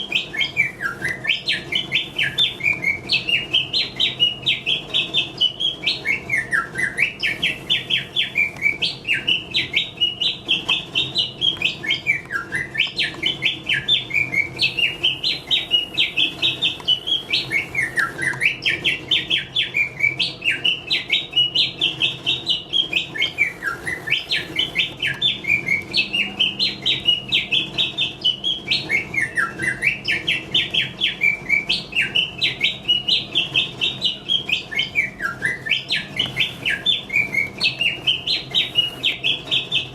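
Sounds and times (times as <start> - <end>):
mechanical bird warbling chirps: 0.0 - 39.9.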